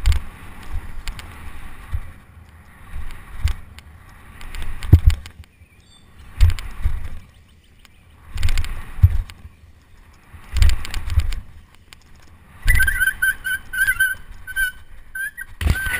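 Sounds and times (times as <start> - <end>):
bicycle tyre noise and rattling: 0.0 - 5.4, 8.3 - 15.9.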